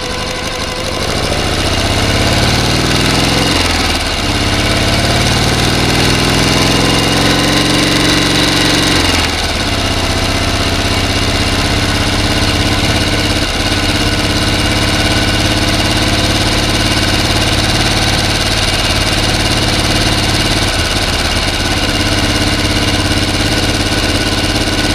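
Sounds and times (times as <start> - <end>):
motor running: 0.0 - 24.9.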